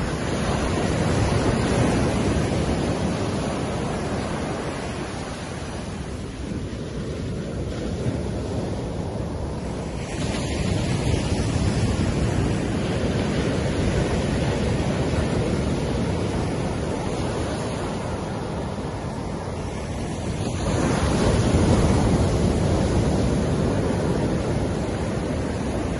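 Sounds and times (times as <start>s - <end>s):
surf washing onto beach: 0.0s - 25.9s.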